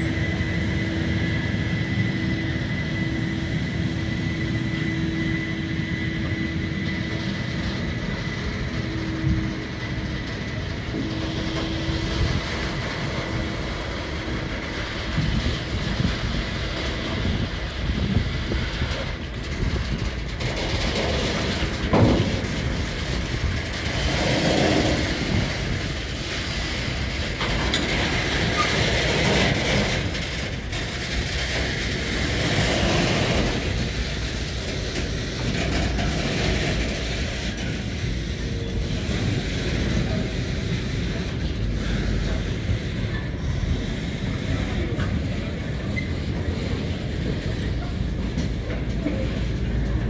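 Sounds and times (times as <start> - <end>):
freight train rolling past: 0.0 - 50.0.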